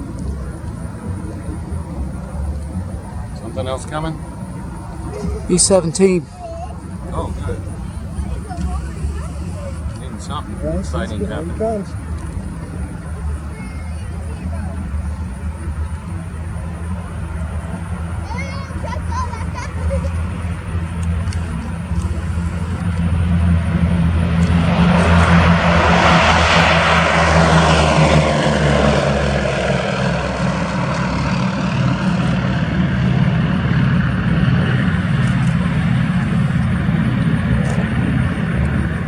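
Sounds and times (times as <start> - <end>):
propeller plane taking off: 0.0 - 39.0.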